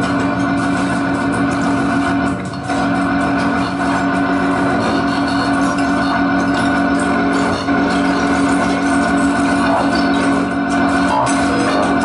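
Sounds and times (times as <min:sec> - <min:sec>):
dark ambient noise drone: 0:00.0 - 0:12.0.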